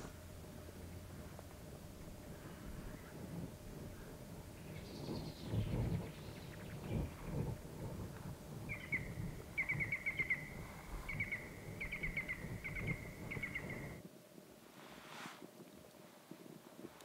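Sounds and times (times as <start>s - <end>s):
low background rumble: 0.0s - 14.8s.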